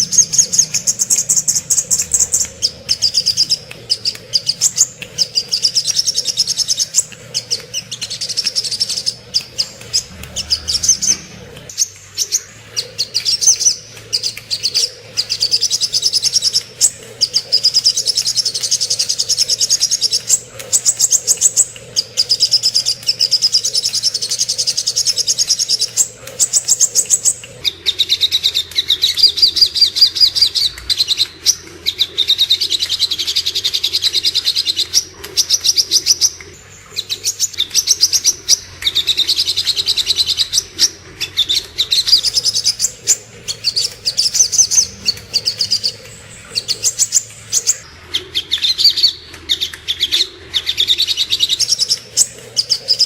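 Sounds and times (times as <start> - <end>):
bird chattering trills: 0.0 - 53.0.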